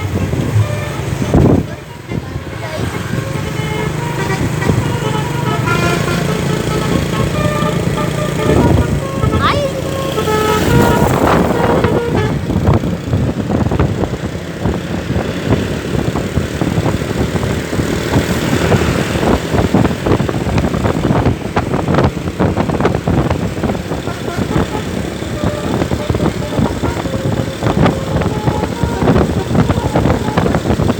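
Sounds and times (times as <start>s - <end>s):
multi-note bus horn: 0.0s - 13.2s, 18.4s - 30.9s
buses passing: 0.0s - 30.9s.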